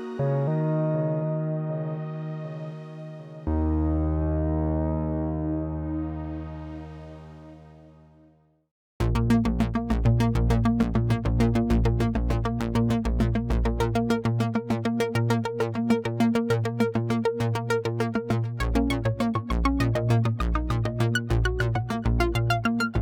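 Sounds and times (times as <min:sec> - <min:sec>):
synthesizer repeated notes: 0:00.0 - 0:07.8, 0:09.0 - 0:23.0
synthesizer bass line: 0:00.0 - 0:08.0, 0:09.0 - 0:23.0.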